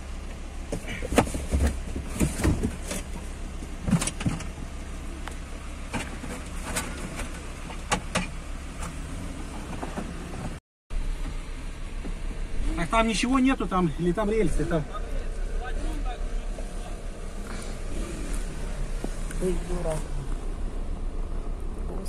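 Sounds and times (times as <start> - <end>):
car interior low rumble: 0.0 - 22.0.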